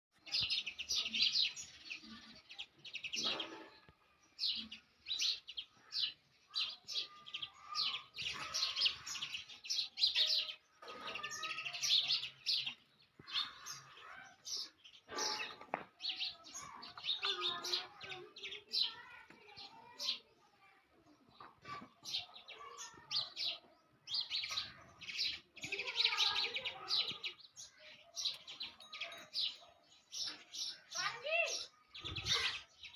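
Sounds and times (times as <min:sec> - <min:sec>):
sparrows chirping: 0:00.1 - 0:32.9.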